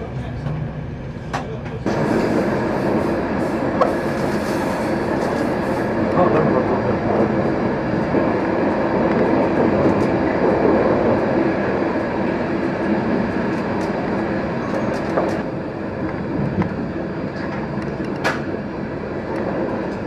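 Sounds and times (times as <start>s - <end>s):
train wheels rumbling and rattling: 0.0s - 20.0s.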